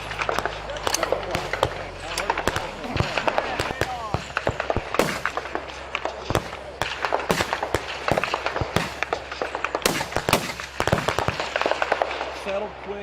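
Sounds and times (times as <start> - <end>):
rifles firing: 0.0 - 12.8.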